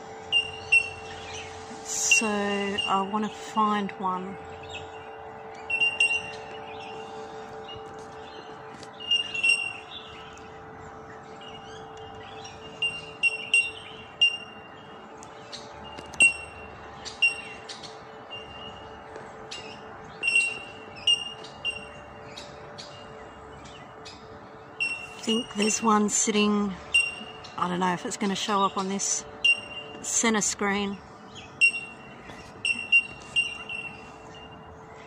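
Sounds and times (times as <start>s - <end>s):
bellbirds pinging: 0.0s - 35.0s.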